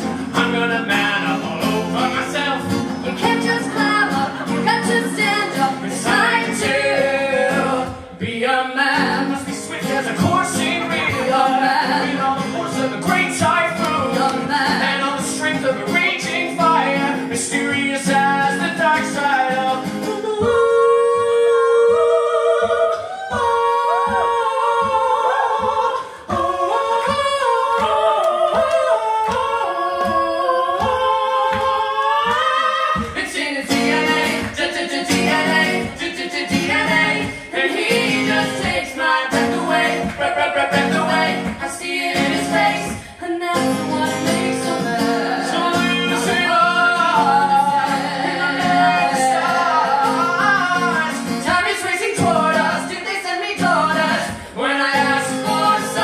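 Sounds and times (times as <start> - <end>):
acoustic guitar: 0.0 - 56.0
man and woman singing: 0.0 - 56.0.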